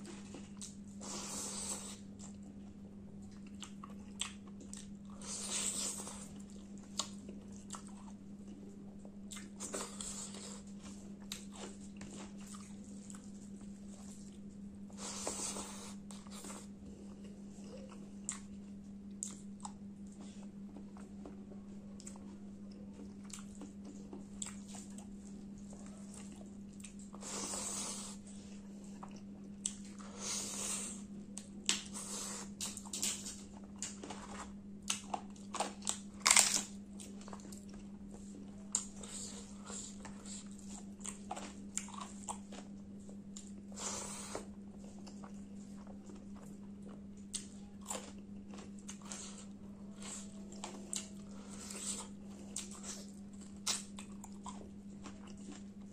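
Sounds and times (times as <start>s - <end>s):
crunching and chewing: 0.0s - 55.9s
steady low hum: 0.0s - 55.9s.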